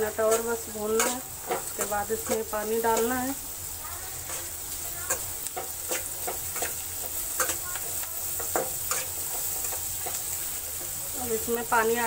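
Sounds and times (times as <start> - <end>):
metal spatula scraping a pan: 0.0 - 12.0
vegetables sizzling in oil: 0.0 - 12.0.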